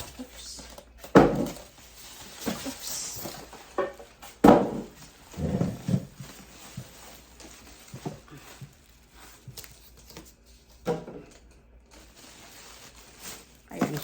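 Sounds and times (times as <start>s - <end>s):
packaging rustling: 0.0s - 14.0s.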